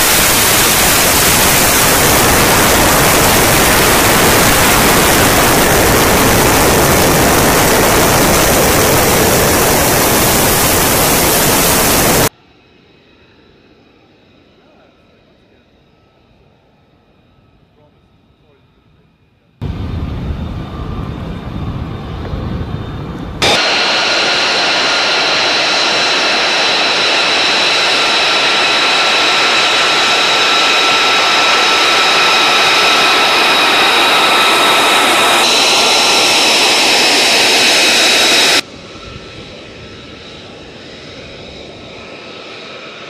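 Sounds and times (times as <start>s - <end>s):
high-pitched jet engine whine: 0.0s - 43.0s
jet engine rumble: 0.0s - 43.0s.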